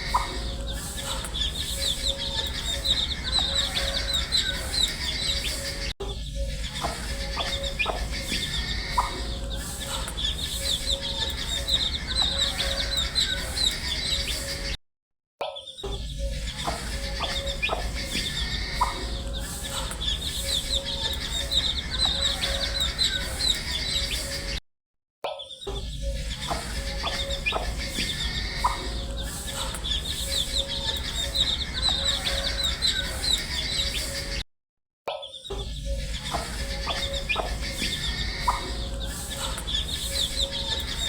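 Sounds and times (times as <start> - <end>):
baby chicks peeping: 0.0 - 14.7, 15.9 - 24.6, 25.6 - 34.4, 35.4 - 41.0.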